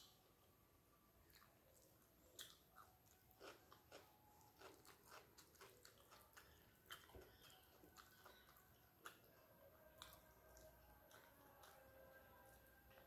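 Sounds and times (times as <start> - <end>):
close-up chewing: 1.2 - 13.0.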